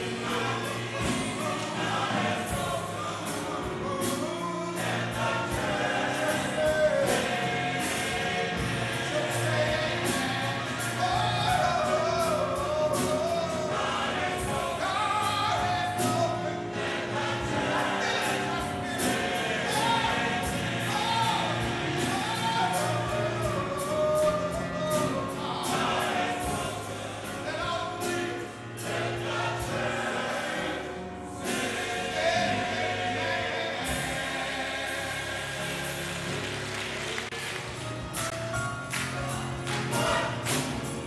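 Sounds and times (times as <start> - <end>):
church choir singing: 0.0 - 41.0.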